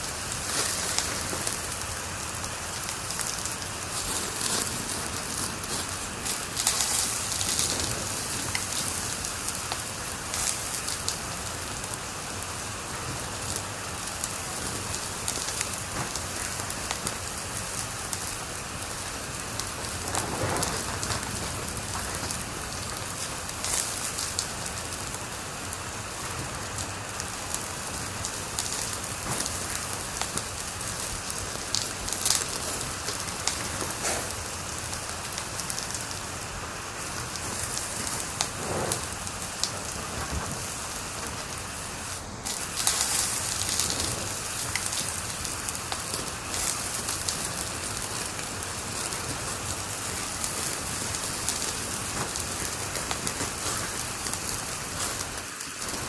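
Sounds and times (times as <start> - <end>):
fire hissing: 0.0 - 56.0
wood fire crackling: 0.0 - 56.0.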